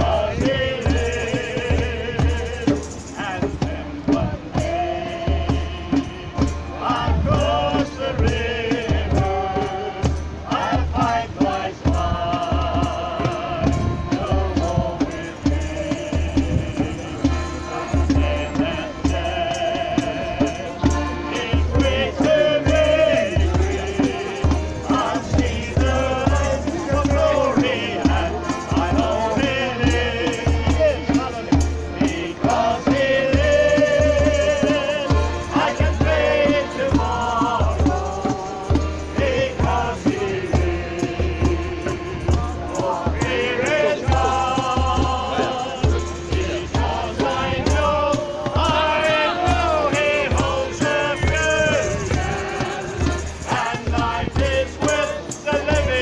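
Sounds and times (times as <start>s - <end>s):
amplified band accompaniment: 0.0s - 56.0s
voices singing worship song: 0.0s - 56.0s.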